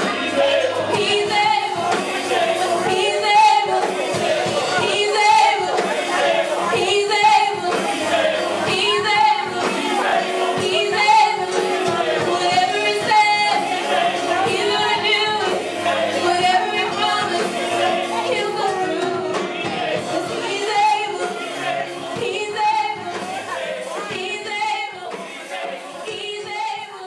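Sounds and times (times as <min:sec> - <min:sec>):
gospel choir singing over music: 0:00.0 - 0:27.0.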